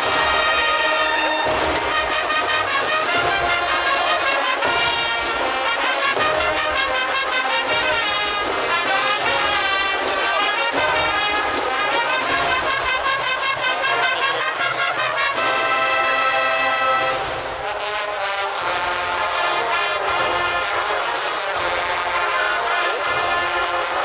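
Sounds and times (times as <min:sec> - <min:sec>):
brass band playing a march: 0:00.0 - 0:24.0
drums keeping a steady beat: 0:00.0 - 0:24.0.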